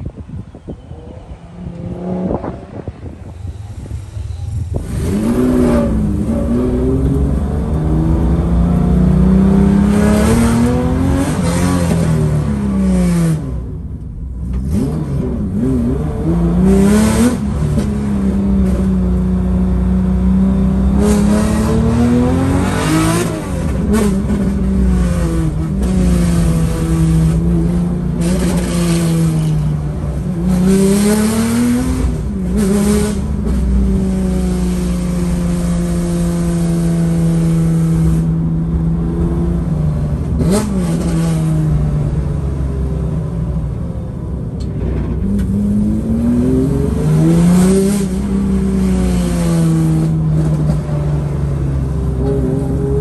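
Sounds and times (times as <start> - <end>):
car engine revving: 0.9 - 53.0.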